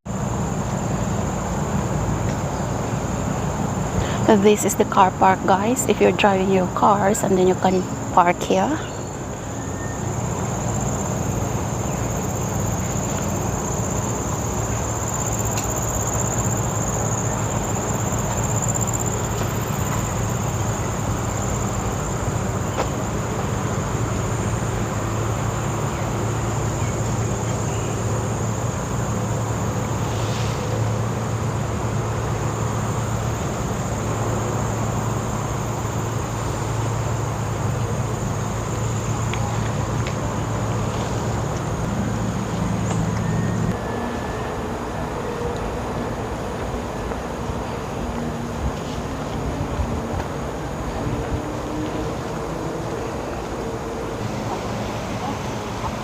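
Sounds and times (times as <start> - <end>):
insects droning: 0.1 - 56.0.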